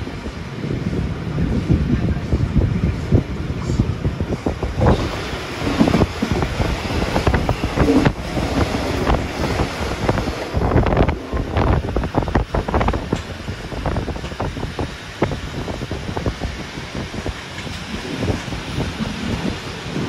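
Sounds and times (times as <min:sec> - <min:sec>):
railway carriage rumble: 0:00.0 - 0:20.0
wind buffeting microphone: 0:00.0 - 0:20.0
knocks and rattles of carriage: 0:03.2 - 0:20.0.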